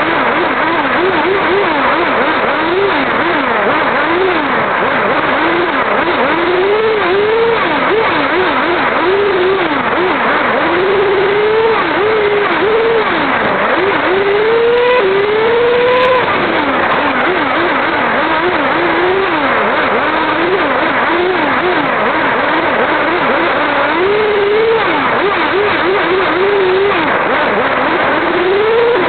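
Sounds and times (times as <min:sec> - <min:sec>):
model car motor revving: 0:00.0 - 0:29.0.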